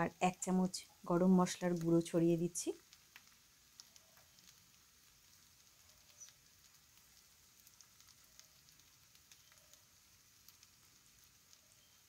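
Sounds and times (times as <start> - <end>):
faint crackles of cooking pan: 0.0 - 12.0.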